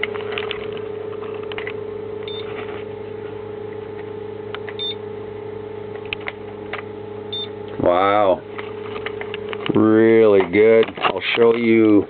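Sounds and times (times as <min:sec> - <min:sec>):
small pumps humming: 0:00.0 - 0:12.0.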